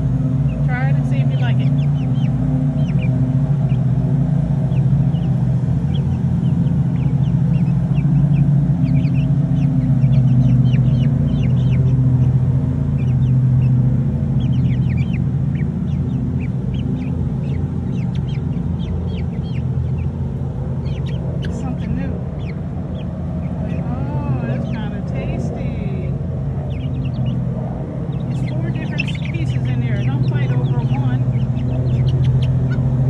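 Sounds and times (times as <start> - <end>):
chicks peeping: 0.0 - 33.0
low mechanical hum: 0.0 - 33.0.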